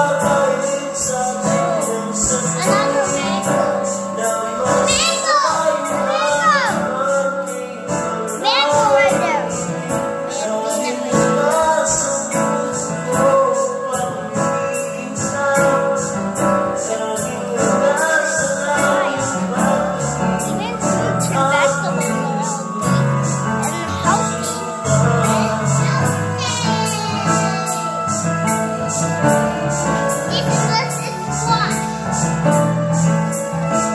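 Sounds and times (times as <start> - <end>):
karaoke backing track: 0.0 - 33.9
person singing into microphone: 0.0 - 33.9.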